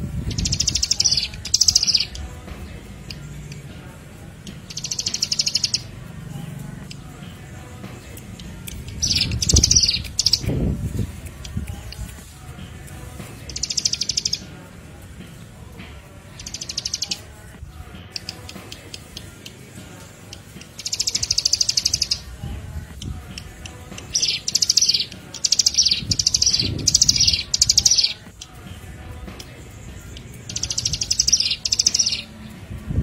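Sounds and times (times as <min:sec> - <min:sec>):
songbird buzzy trills: 0:00.0 - 0:33.0.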